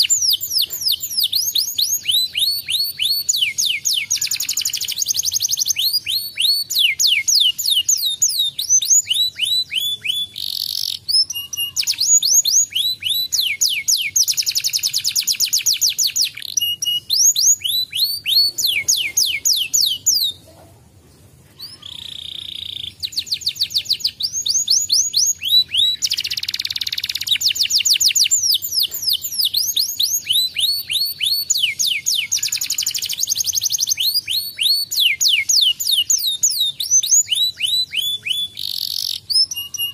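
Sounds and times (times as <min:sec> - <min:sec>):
canary singing trills: 0:00.0 - 0:20.6, 0:21.6 - 0:39.9.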